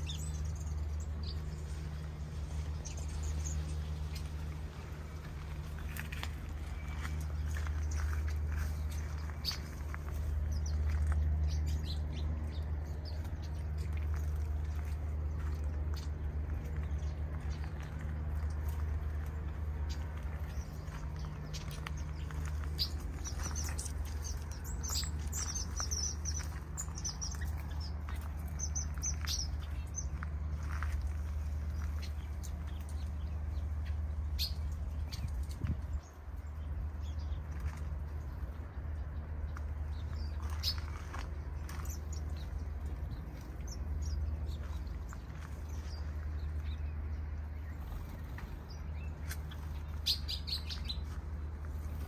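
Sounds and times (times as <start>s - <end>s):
birds chirping: 0.0s - 52.0s
steady low rumble: 0.0s - 52.0s.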